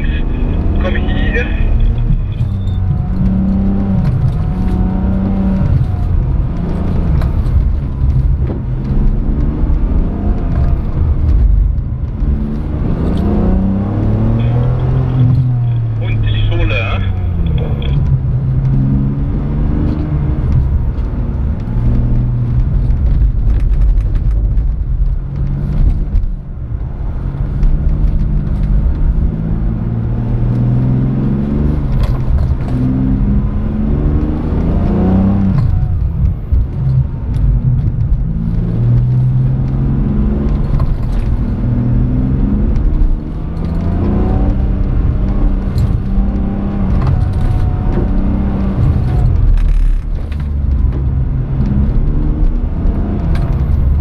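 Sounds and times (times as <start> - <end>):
car engine revving: 0.0 - 54.0
low road rumble: 0.0 - 54.0.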